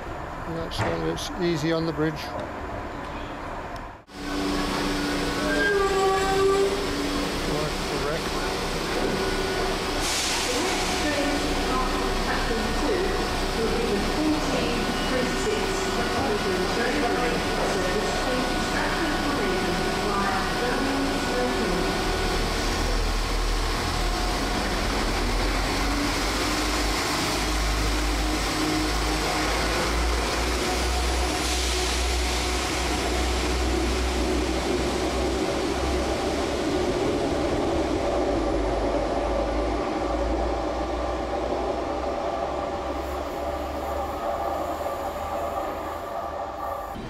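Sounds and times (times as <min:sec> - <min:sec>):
train diesel engines rumbling: 0:00.0 - 0:47.0.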